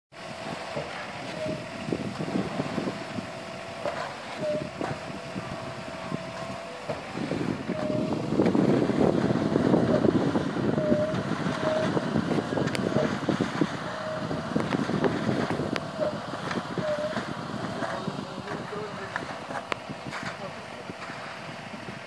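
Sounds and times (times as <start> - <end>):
motor running with whine: 0.1 - 22.0
wind on microphone: 0.2 - 22.0.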